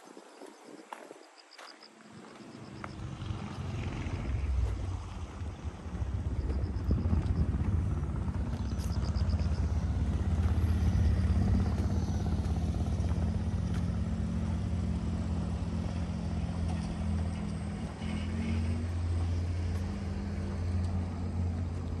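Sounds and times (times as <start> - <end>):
engine humming: 2.1 - 22.0.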